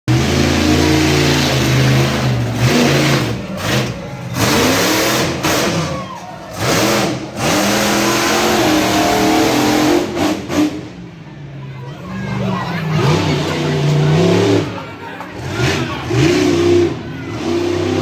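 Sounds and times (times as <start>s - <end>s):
truck engine revving: 0.0s - 11.2s, 12.0s - 18.0s.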